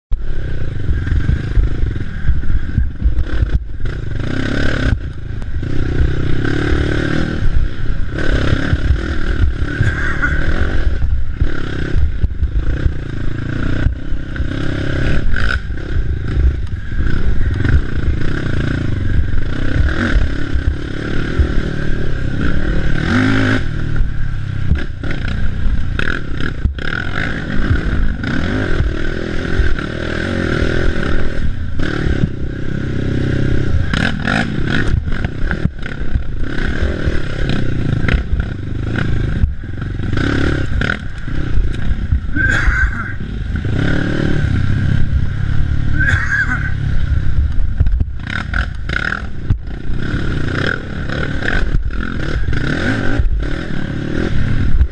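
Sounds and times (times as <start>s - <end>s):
atv engine revving: 0.1s - 54.9s.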